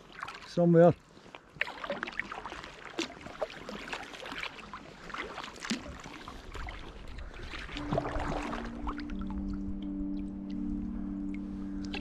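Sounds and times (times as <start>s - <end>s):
paddle splashes and drips: 0.0s - 12.0s
water lapping at hull: 0.0s - 12.0s.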